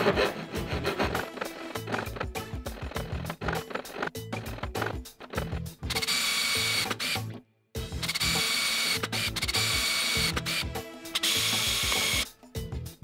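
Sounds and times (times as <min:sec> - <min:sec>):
cordless drill whining through metal: 0:00.0 - 0:07.3, 0:08.0 - 0:12.3
background music with a beat: 0:00.0 - 0:13.0.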